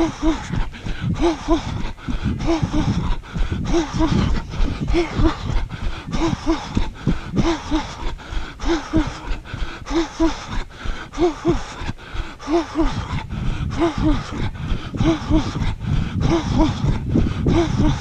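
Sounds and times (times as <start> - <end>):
wind on microphone: 0.0 - 9.6, 12.7 - 18.0
runner breathing heavily: 0.0 - 18.0.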